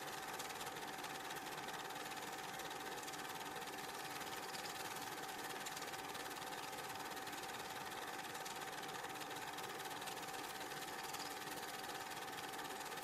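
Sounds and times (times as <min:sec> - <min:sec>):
film projector running: 0:00.0 - 0:13.0.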